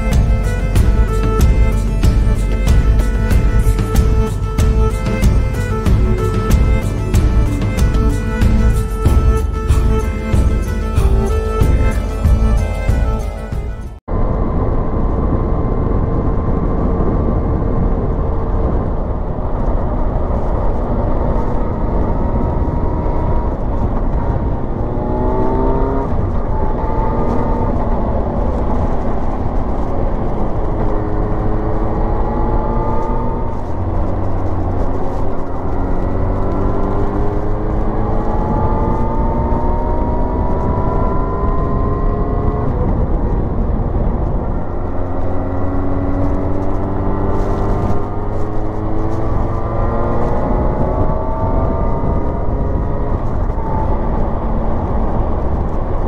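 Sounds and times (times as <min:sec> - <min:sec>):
motorcycle engine accelerating: 0:00.0 - 0:56.0
wind rumble: 0:00.0 - 0:56.0.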